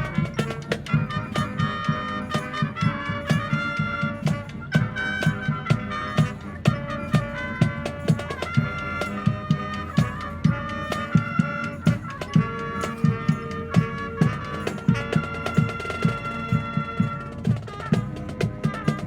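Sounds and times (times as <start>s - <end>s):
brass holding sustained notes: 0.0s - 19.0s
steady drum beat: 0.0s - 19.0s.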